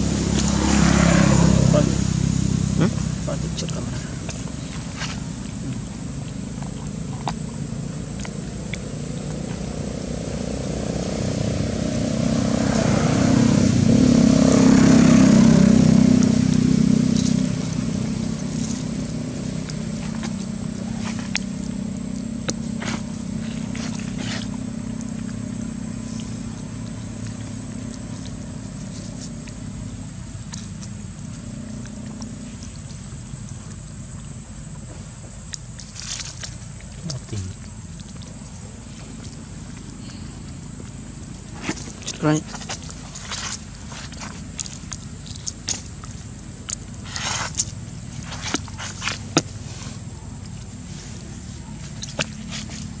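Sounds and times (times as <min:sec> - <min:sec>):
vehicle engine droning: 0:00.0 - 0:53.0.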